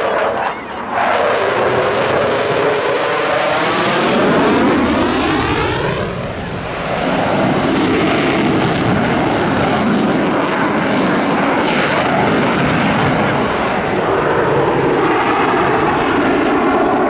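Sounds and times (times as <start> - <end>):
jet roaring past: 0.0 - 17.0.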